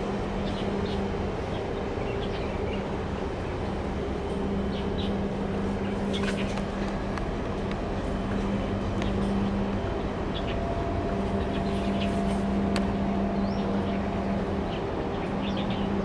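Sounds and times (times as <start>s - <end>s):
ship machinery drone: 0.0s - 16.0s
steady hum: 0.0s - 16.0s.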